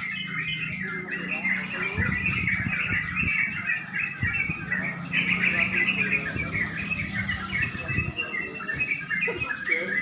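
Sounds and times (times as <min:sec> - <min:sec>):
many songbirds chirping: 0:00.0 - 0:10.0.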